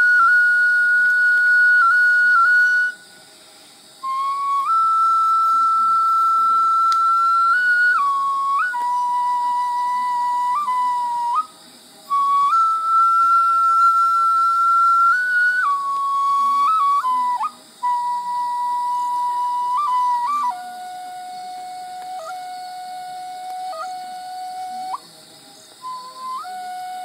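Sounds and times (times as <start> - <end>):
bamboo flute melody: 0.0 - 27.0.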